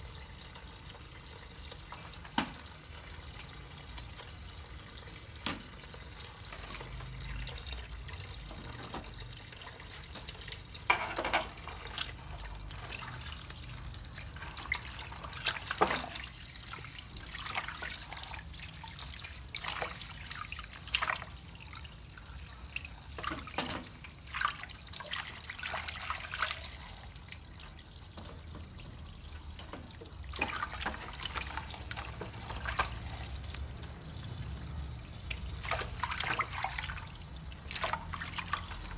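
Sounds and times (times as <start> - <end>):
tap water running into sink: 0.0 - 21.9, 22.8 - 38.9
water splashes and knocks: 1.8 - 3.2, 5.1 - 21.5, 23.0 - 34.0, 35.2 - 38.9.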